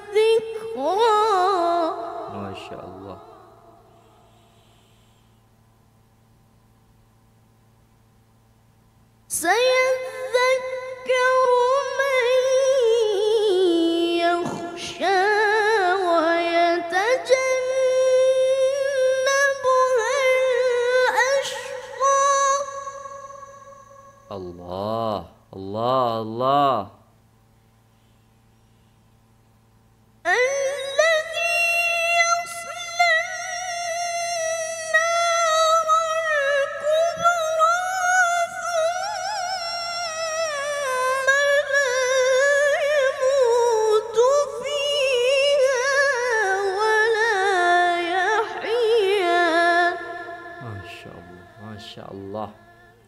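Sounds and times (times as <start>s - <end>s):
boy reciting melodically: 0.0s - 3.8s, 9.3s - 26.9s, 30.3s - 53.0s.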